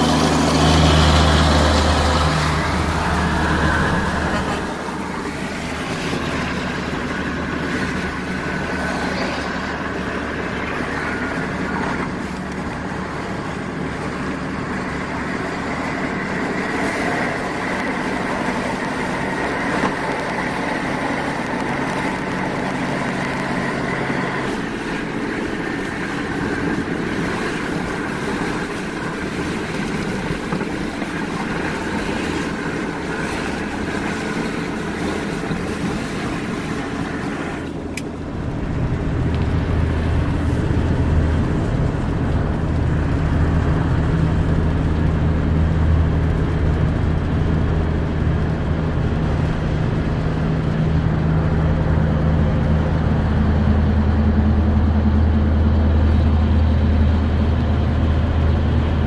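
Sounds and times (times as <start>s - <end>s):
engine drone: 0.0s - 59.0s
road noise inside truck cab: 0.0s - 59.0s.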